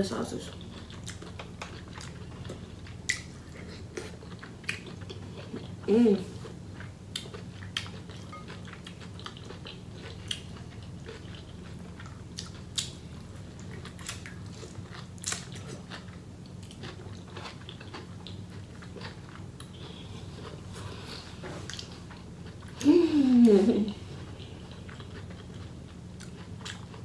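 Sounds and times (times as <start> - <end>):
steady low hum: 0.0 - 27.0
person chewing crunchy food: 0.5 - 22.9, 24.1 - 27.0.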